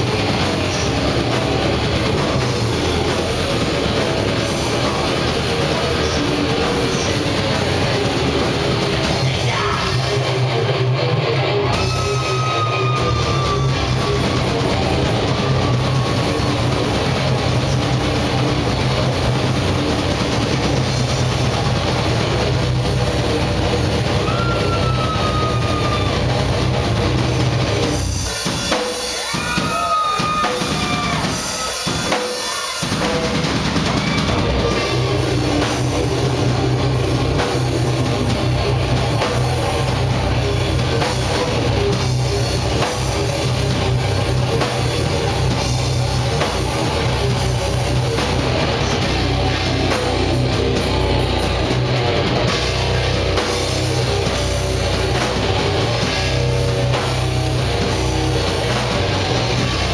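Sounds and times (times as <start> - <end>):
live metal band playing: 0.0 - 59.9.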